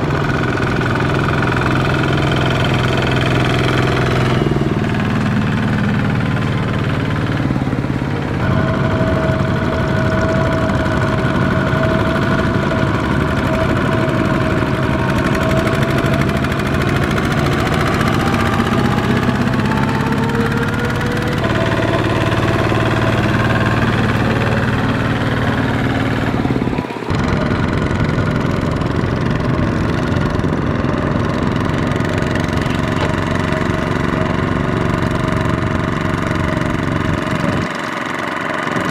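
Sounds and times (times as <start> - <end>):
diesel tractor engines running: 0.0 - 38.9.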